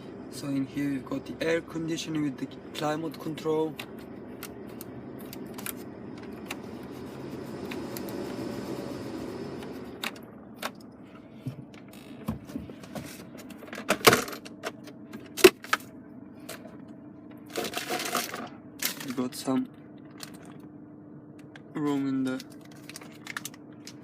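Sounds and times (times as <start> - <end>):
diesel engine cabin hum: 0.0 - 24.0.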